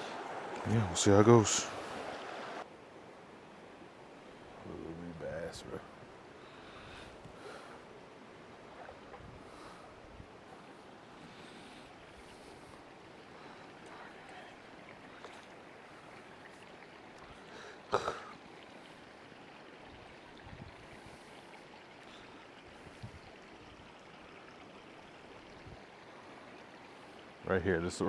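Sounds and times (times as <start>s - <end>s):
creek water running: 0.0s - 28.0s.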